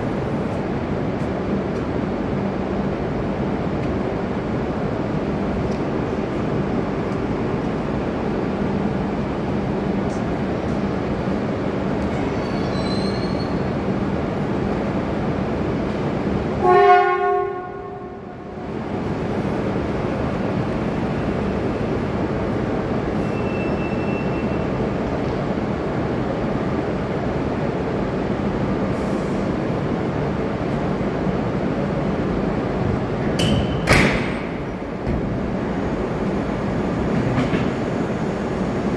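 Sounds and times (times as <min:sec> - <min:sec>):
train rumbling slowly: 0:00.0 - 0:38.9.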